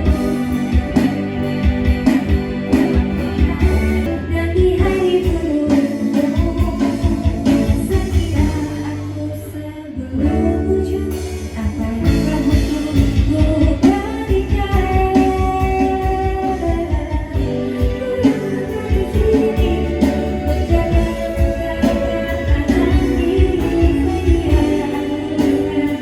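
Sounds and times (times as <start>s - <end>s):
song with singing and guitar: 0.0s - 26.0s.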